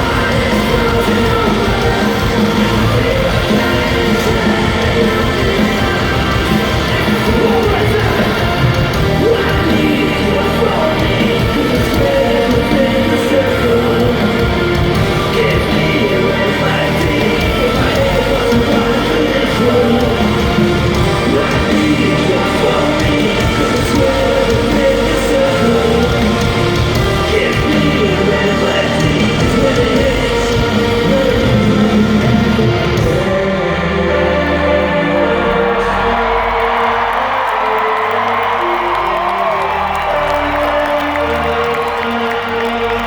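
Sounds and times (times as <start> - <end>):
crowd noise: 0.0 - 43.0
heavy rock band playing: 0.0 - 43.0
person singing: 0.0 - 43.0.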